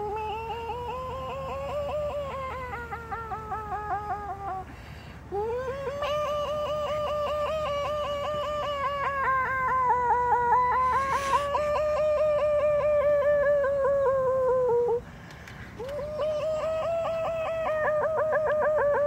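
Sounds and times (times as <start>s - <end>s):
boy warbling with his mouth: 0.0s - 4.7s, 5.3s - 15.0s, 15.8s - 19.0s.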